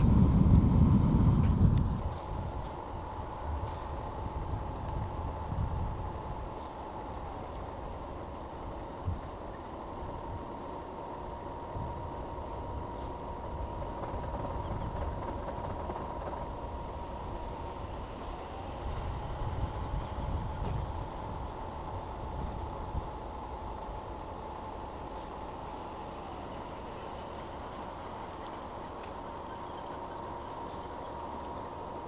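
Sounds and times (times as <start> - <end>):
jet engine low rumble: 0.0 - 32.0
jet engine whine: 0.0 - 32.0.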